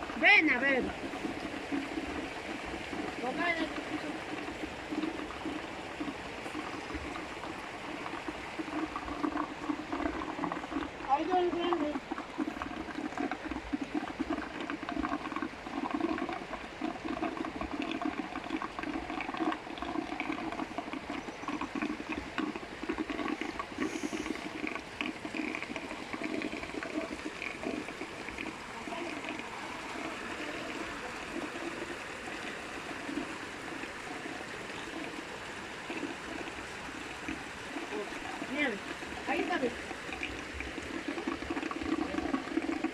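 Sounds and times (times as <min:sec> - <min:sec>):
water pouring into pond: 0:00.0 - 0:42.9.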